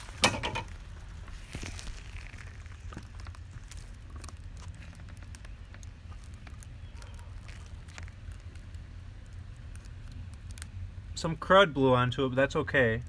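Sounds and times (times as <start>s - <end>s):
faint clicks and crackles: 0.0s - 11.6s.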